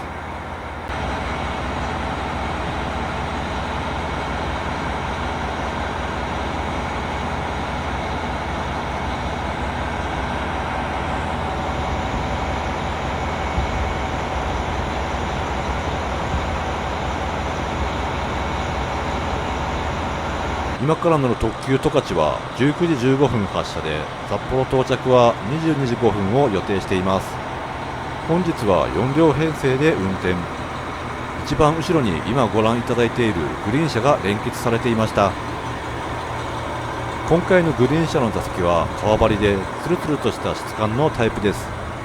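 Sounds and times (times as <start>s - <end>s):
diesel train engines idling: 0.0s - 42.0s.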